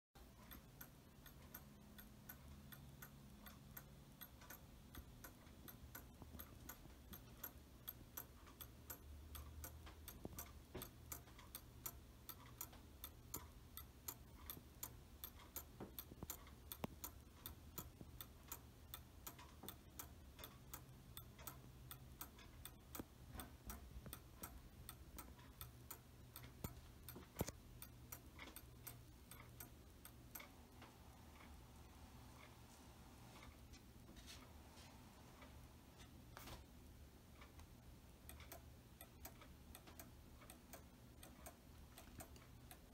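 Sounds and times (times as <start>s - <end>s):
clock ticking: 0.2s - 42.9s.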